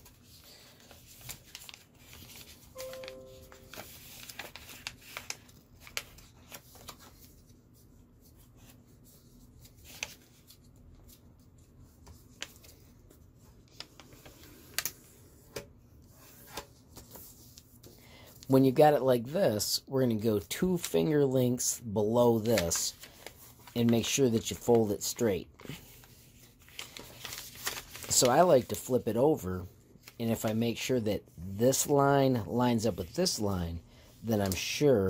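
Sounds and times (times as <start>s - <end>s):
paper rustling and crinkling: 0.0s - 18.4s, 22.1s - 29.1s, 31.4s - 35.0s.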